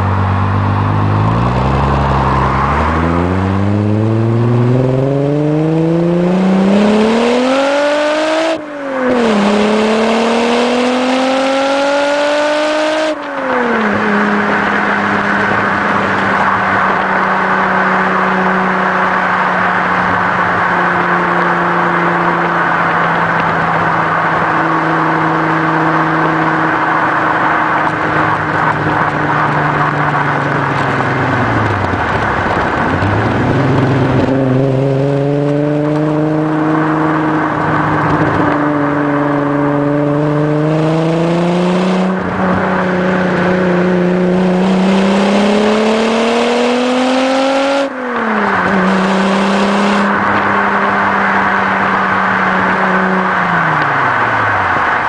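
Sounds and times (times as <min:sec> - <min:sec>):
car engine and exhaust: 0:00.0 - 0:55.0.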